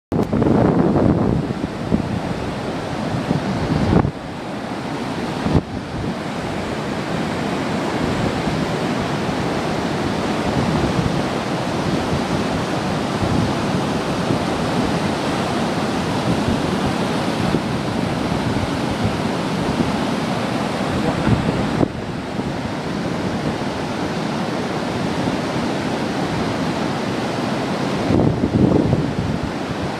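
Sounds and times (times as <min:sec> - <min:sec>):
river water rushing over weir: 0:00.1 - 0:29.9.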